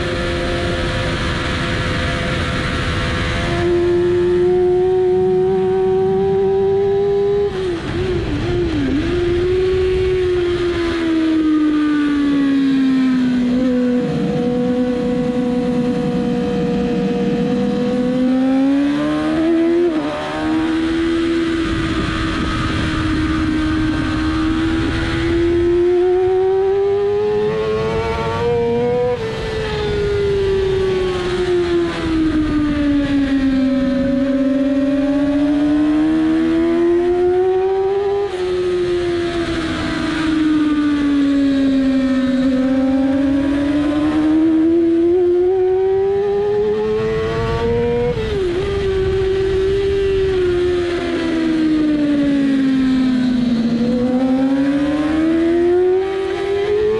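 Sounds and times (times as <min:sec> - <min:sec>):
motorcycle engine at high revs: 0:00.0 - 0:56.9.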